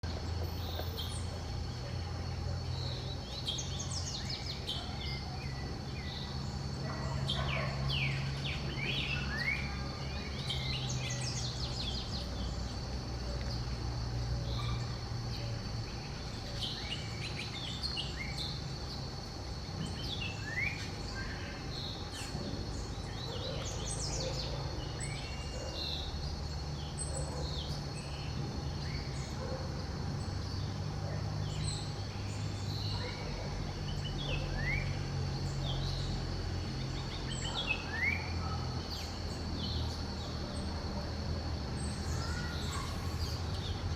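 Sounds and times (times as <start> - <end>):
wild birds chirping: 0.0 - 43.9.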